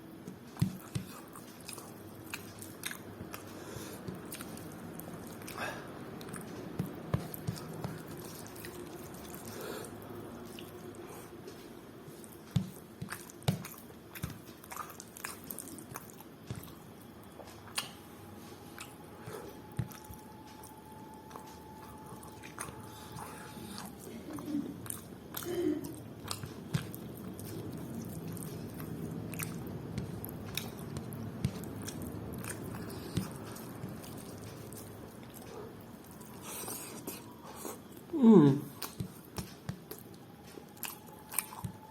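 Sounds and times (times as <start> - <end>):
low steady hum: 0.0 - 41.9
mouth chewing and biting food: 0.4 - 11.3, 12.1 - 18.0, 19.6 - 41.9.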